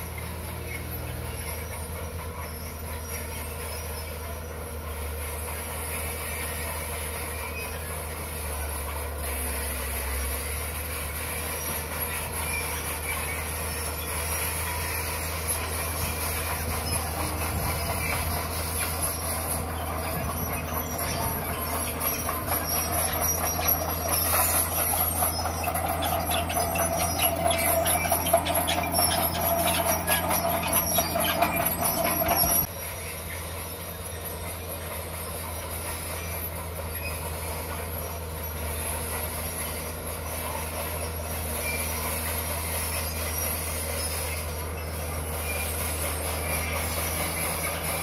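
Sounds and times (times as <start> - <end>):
bulldozer diesel engine under load: 0.0 - 48.0
steel tracks clanking: 0.1 - 48.0.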